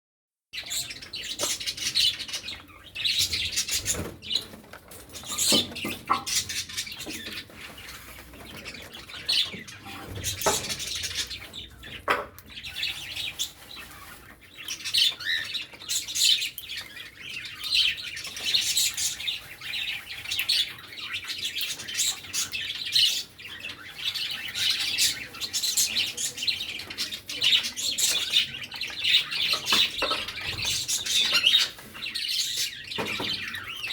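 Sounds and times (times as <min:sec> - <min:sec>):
cockatiels chirping: 0:00.6 - 0:33.9.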